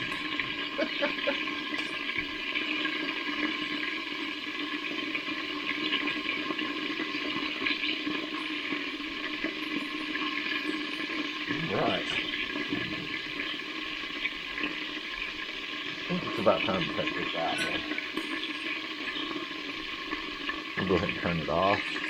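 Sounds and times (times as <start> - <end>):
chicken frying in hot oil: 0.0 - 22.0.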